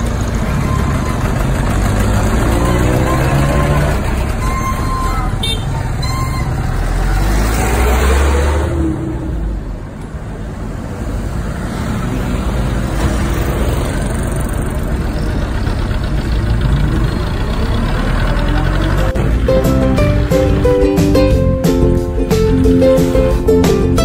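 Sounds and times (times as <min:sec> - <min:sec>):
bus engine running: 0:00.0 - 0:24.0
road and traffic noise: 0:00.0 - 0:24.0.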